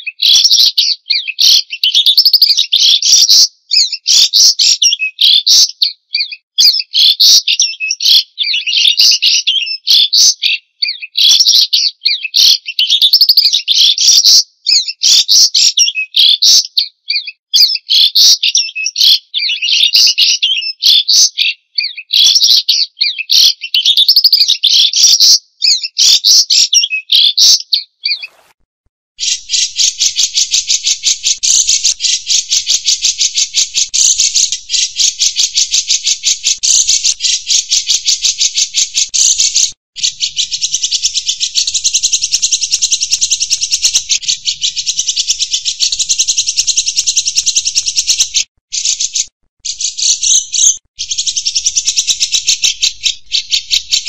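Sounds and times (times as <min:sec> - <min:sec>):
bird singing whistled phrases: 0:00.0 - 0:28.5, 0:29.2 - 0:54.0.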